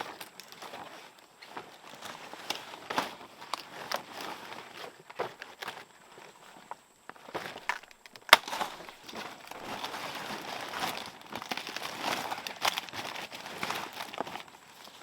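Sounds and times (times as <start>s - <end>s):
crunching and rustling: 0.0s - 15.0s.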